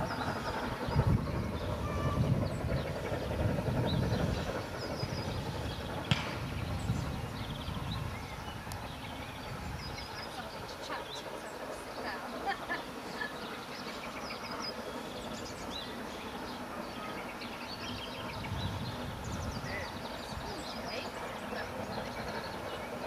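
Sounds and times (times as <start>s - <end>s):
small birds chirping: 0.0s - 23.0s
steam locomotive rumble: 0.0s - 23.0s.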